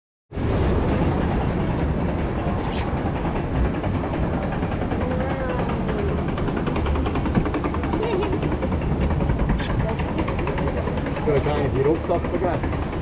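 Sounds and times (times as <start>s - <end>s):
steady rumbling: 0.3s - 13.0s.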